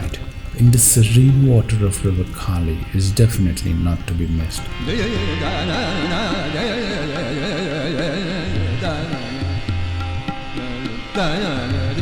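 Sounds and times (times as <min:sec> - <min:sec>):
steady low drone: 0:00.0 - 0:10.9
person singing ornamented melody: 0:00.0 - 0:12.0.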